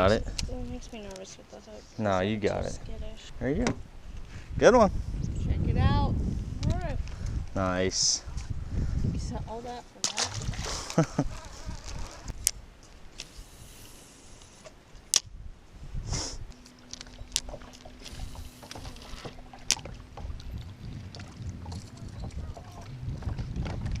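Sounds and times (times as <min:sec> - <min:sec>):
wind and water rumble: 0:00.0 - 0:24.0.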